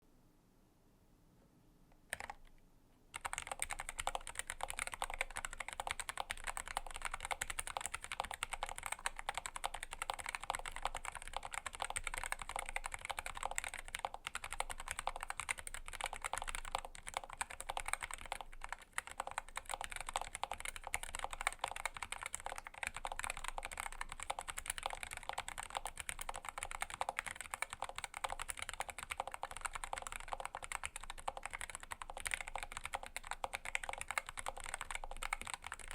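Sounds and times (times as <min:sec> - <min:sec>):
mechanical keyboard typing: 0:02.1 - 0:02.5, 0:03.1 - 0:35.9.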